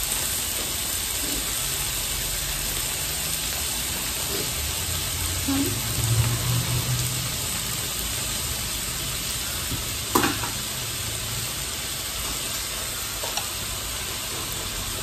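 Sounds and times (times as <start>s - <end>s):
meat sizzling on grill plate: 0.0s - 15.0s.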